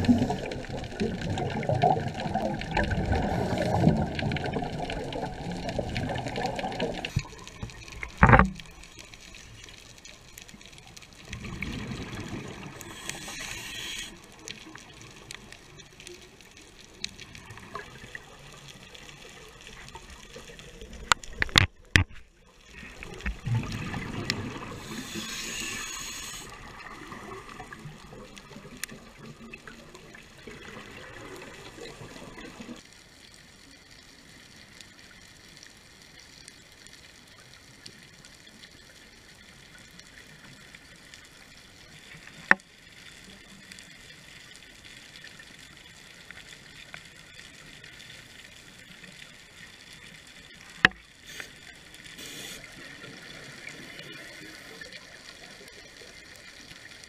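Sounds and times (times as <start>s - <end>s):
steady underwater hiss: 0.0s - 57.0s.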